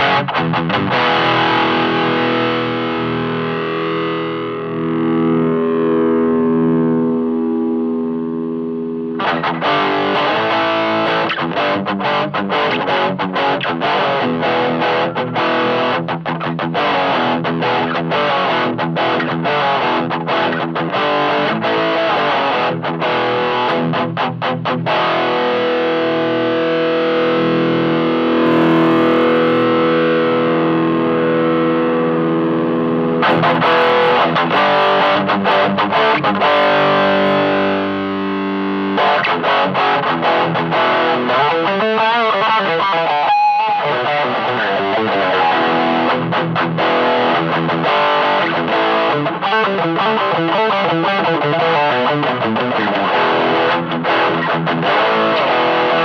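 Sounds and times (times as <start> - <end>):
distorted electric guitar chords: 0.0 - 56.0.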